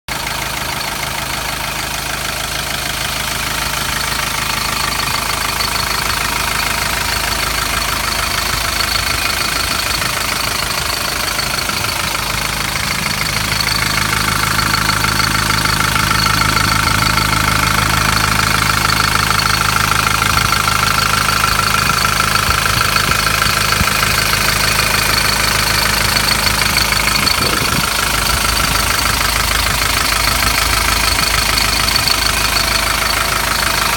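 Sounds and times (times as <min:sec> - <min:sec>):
diesel engine idling with knock: 0:00.1 - 0:33.9.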